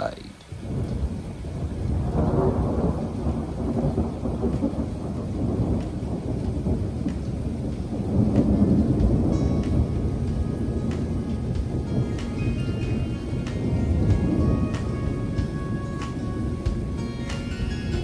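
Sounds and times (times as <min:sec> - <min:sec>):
steady rainfall: 0:00.0 - 0:18.0
thunder rumbling: 0:00.0 - 0:18.0.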